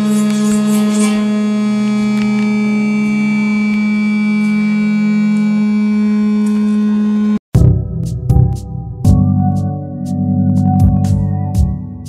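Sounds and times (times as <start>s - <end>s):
gong drone with ringing overtones: 0.0s - 11.3s.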